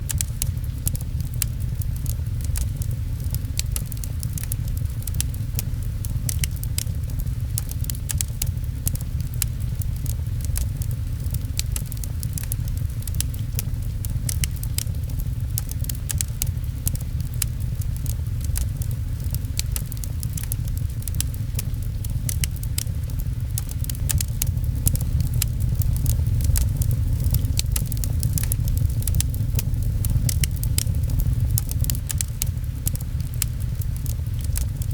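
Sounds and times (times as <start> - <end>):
fireplace crackling and popping: 0.0 - 34.9
rain pattering: 0.0 - 34.9.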